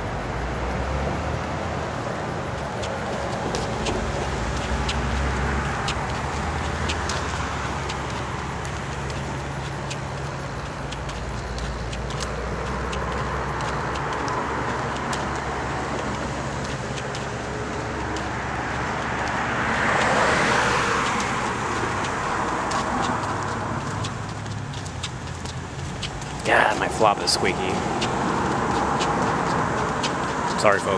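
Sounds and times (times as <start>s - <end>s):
road traffic passing: 0.0s - 30.9s
light ticks of walking: 2.4s - 30.9s.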